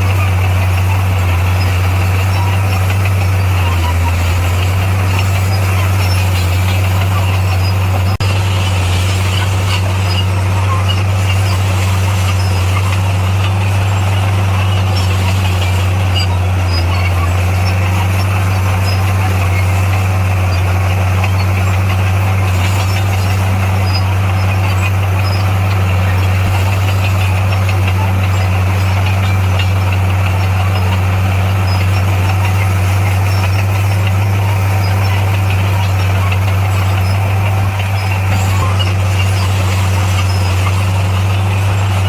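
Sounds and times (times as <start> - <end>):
heavy diesel engine drone: 0.0 - 42.0
rattly engine noise: 0.0 - 42.0.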